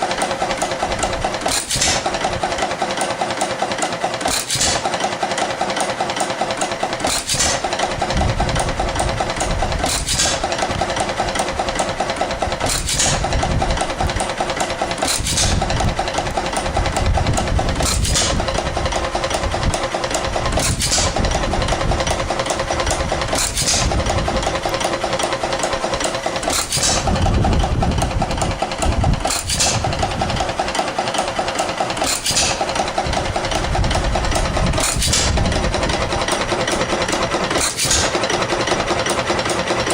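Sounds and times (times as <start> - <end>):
engine rhythmic clatter: 0.0 - 39.9.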